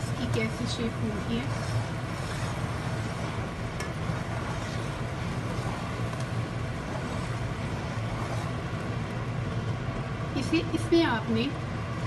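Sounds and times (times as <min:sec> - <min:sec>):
syrup bubbling and sizzling in pan: 0:00.0 - 0:10.3.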